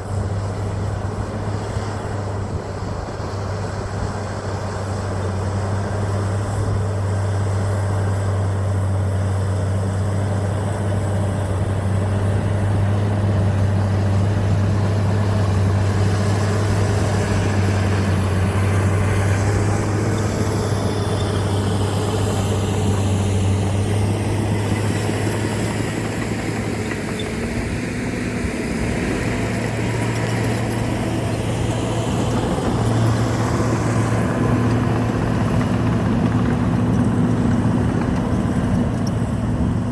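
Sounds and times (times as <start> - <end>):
dozer diesel engine running: 0.0 - 39.9.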